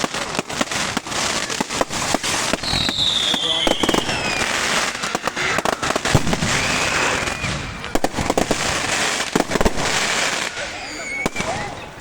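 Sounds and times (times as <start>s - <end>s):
fireworks bangs: 0.0s - 12.0s
fireworks crackling: 0.0s - 12.0s
fireworks whistling: 0.0s - 12.0s.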